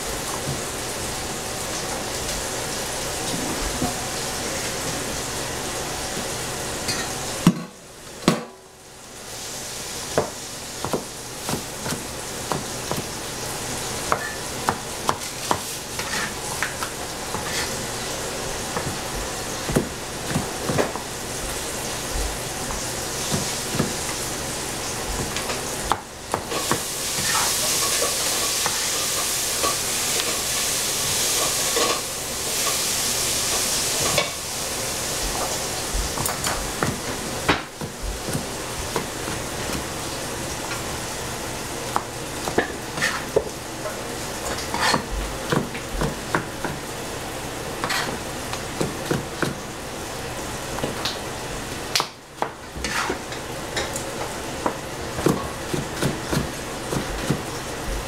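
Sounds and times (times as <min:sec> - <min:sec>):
food sizzling in oil: 0:08.8 - 0:58.0.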